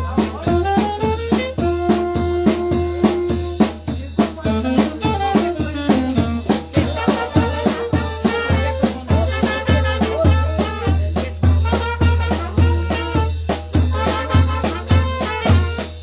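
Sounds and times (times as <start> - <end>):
saxophone melody: 0.0 - 3.8, 4.4 - 16.0
snare and bass drums: 0.0 - 16.0.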